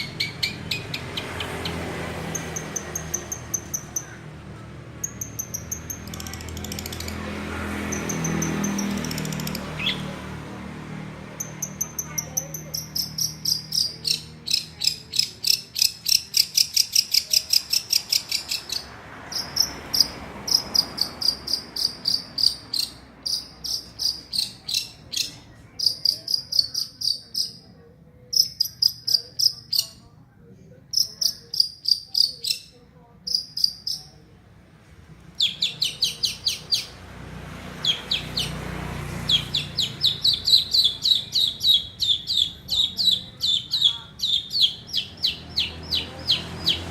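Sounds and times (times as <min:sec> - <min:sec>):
bird chirping rapidly: 0:00.0 - 0:04.3, 0:04.9 - 0:10.2, 0:11.4 - 0:27.7, 0:28.3 - 0:30.0, 0:30.9 - 0:34.2, 0:35.4 - 0:46.9.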